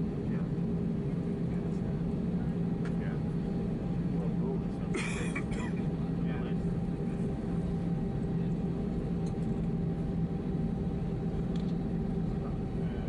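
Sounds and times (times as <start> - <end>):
airplane cabin engine hum: 0.0 - 13.0.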